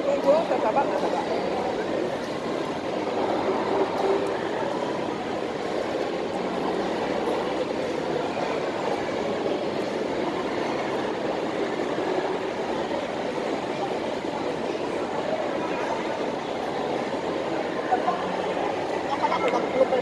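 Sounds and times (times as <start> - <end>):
distant crowd voices: 0.0 - 20.0.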